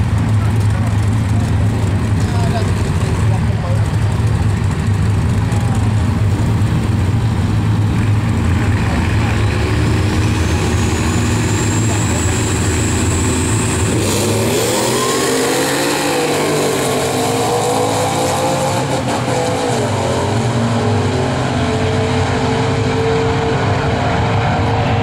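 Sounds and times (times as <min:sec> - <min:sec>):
pickup truck engines drag racing: 0:00.0 - 0:25.0.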